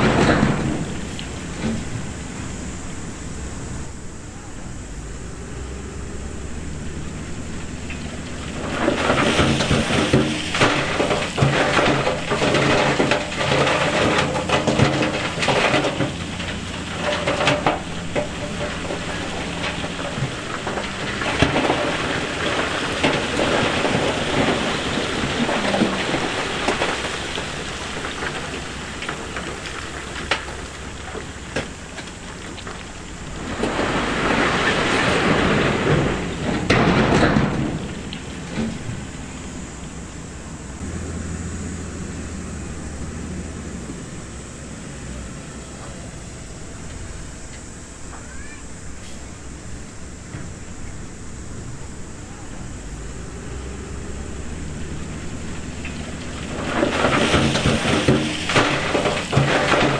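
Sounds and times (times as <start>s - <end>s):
diesel engine running: 0.0s - 59.9s
rocks tumbling and knocking: 0.0s - 59.9s.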